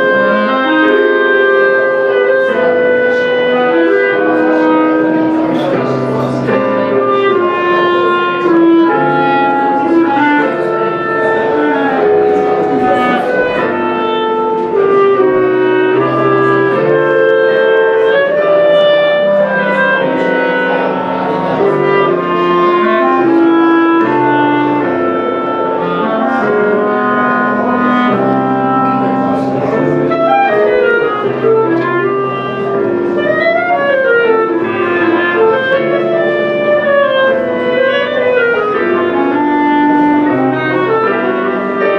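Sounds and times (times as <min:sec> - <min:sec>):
clarinets playing in harmony: 0:00.0 - 0:41.9.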